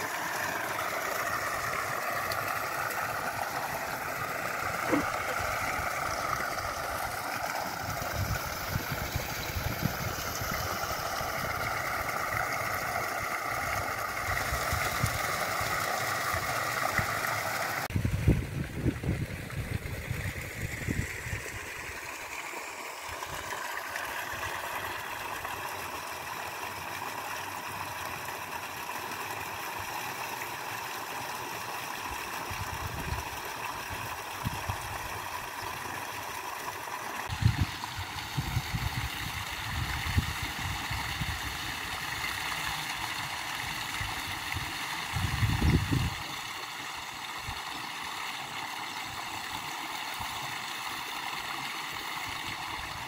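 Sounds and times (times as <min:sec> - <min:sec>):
water splashing into pool: 0:00.0 - 0:53.0.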